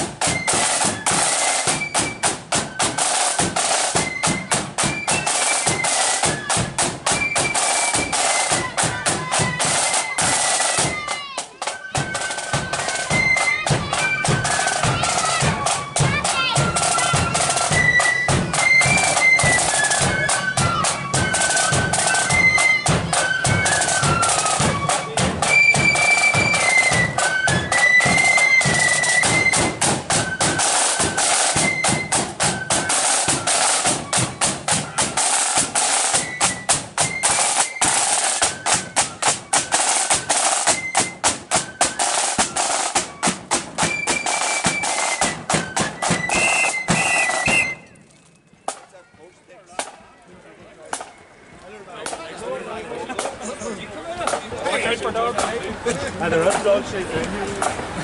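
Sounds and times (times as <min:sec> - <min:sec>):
snare and bass drums: 0:00.0 - 0:48.0, 0:48.6 - 0:48.9, 0:49.7 - 0:50.0, 0:54.2 - 0:58.0
flutes playing shrill melody: 0:00.0 - 0:52.0.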